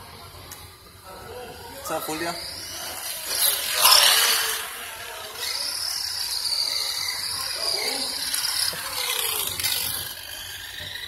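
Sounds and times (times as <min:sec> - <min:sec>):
toy truck motor whining: 0:01.5 - 0:11.0.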